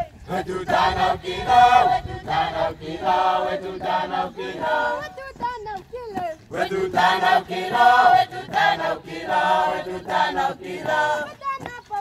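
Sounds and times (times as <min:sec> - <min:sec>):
group of voices chanting: 0:00.3 - 0:05.1, 0:06.5 - 0:11.3.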